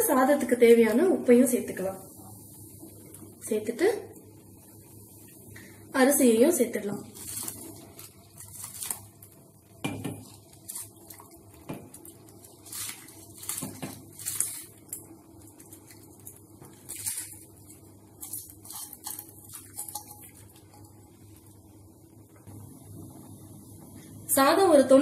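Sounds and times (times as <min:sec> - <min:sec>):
boiling pot hum: 0:00.0 - 0:25.0.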